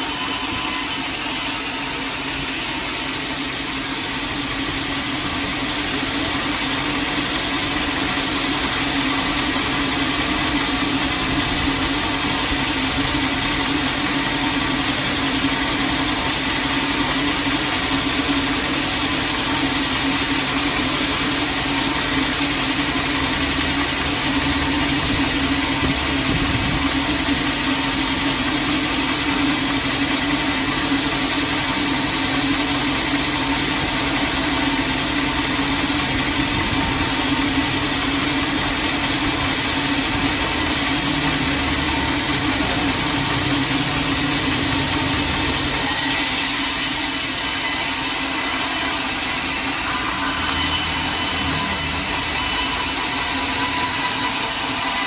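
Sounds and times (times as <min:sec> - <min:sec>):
steady machine hum: 0:00.0 - 0:45.9, 0:47.7 - 0:55.0
saw cutting through log: 0:00.0 - 0:55.0
high-pitched whine: 0:01.6 - 0:31.3, 0:31.9 - 0:55.0.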